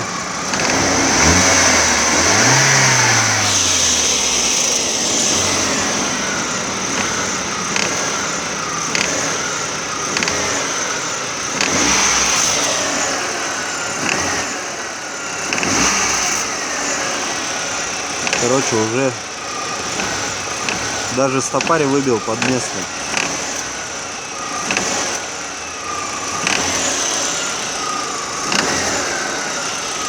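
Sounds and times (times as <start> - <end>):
car engine revving: 0.0 - 30.0
sharp engine clicks: 0.0 - 30.0.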